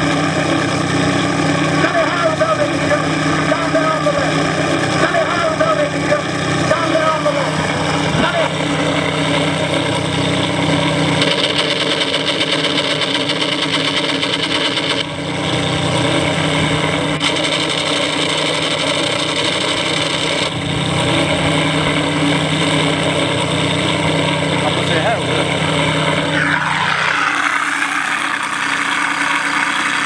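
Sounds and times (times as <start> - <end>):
model plane engine running: 0.0 - 30.0.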